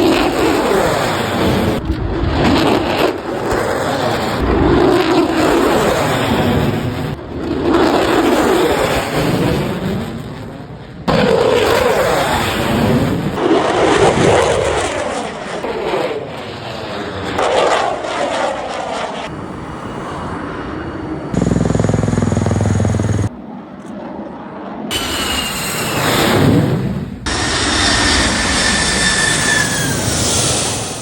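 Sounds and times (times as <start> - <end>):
jet aircraft roaring overhead: 0.0 - 31.0.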